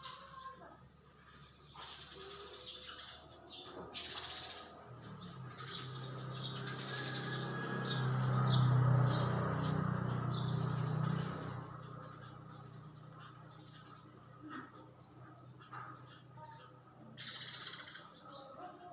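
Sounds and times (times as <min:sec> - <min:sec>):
bird chirping: 0:00.0 - 0:18.9.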